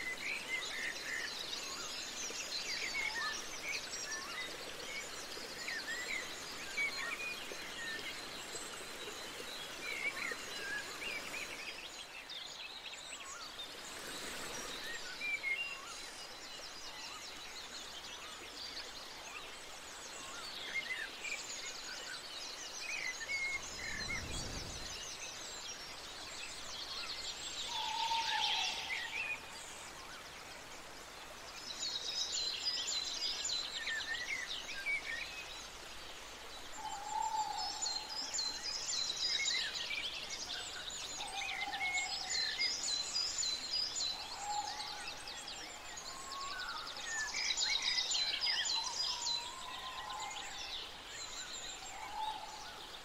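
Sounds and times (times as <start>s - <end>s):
steady outdoor hiss: 0.0s - 53.0s.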